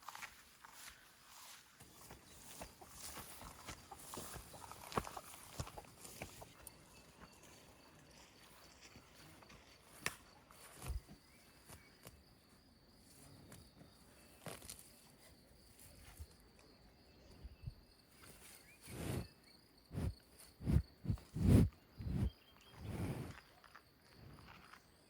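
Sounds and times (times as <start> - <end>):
insects chirping trill: 0.1 - 25.0.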